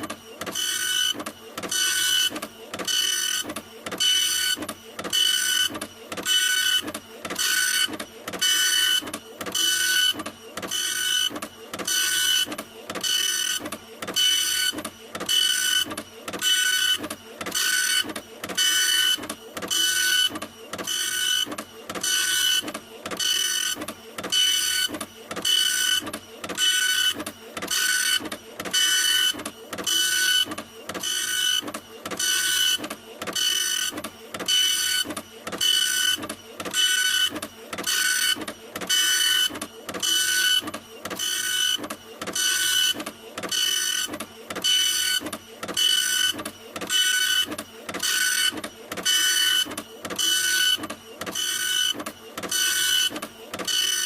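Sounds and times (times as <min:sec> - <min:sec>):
printer motor whine: 0:00.0 - 0:54.0.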